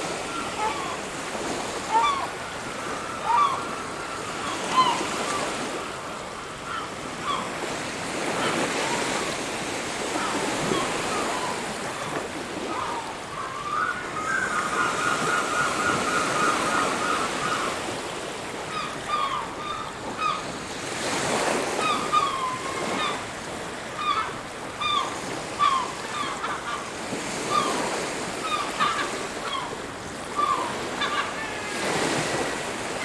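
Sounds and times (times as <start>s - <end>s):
birds calling: 0.0s - 18.0s, 18.6s - 20.5s, 23.9s - 33.0s
surf washing on a beach: 0.0s - 33.0s.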